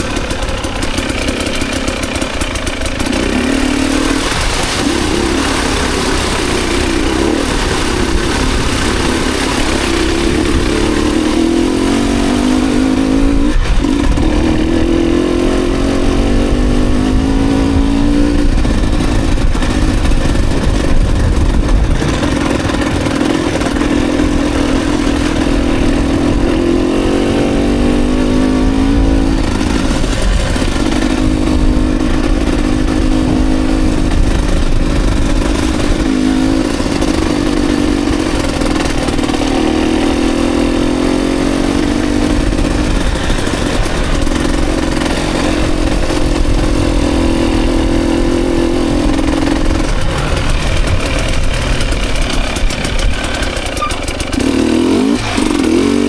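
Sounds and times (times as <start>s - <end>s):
dirt bike engine revving: 0.0s - 56.0s
track noise: 0.0s - 56.0s
wind: 0.0s - 56.0s.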